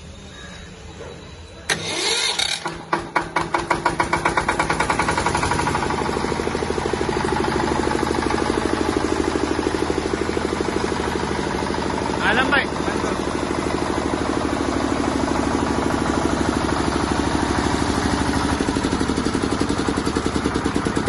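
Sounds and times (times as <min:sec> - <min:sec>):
diesel generator engine starting: 0:00.0 - 0:21.0.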